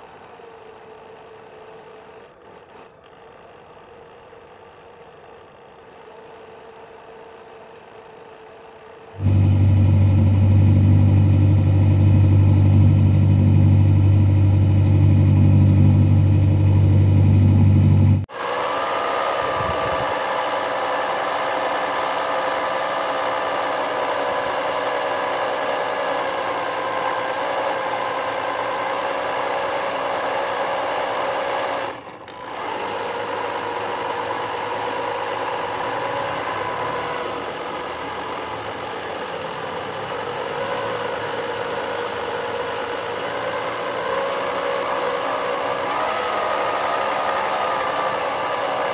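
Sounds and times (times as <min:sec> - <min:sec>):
electric motor humming: 0:00.0 - 0:48.9.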